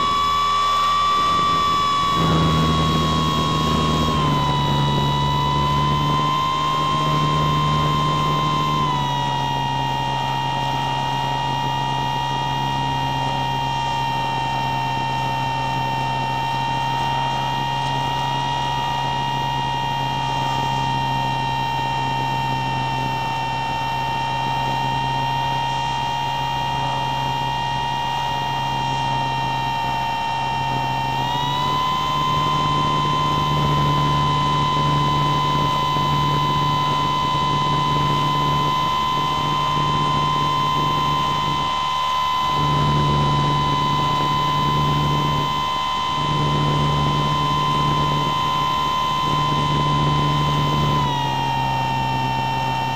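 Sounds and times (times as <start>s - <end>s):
motor glider engine and propeller: 0.0s - 52.9s.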